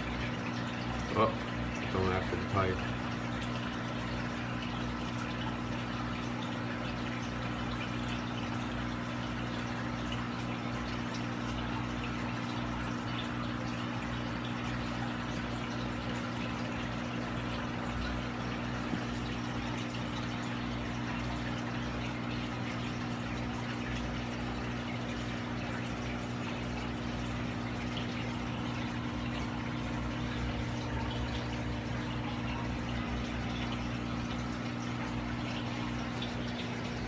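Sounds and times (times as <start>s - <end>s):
filter pump hum: 0.0s - 37.0s
water flowing and splashing: 0.0s - 37.0s.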